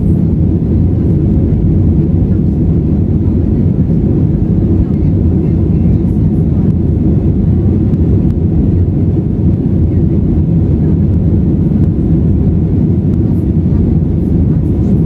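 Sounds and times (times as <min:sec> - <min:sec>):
airplane cabin roar: 0:00.0 - 0:15.0.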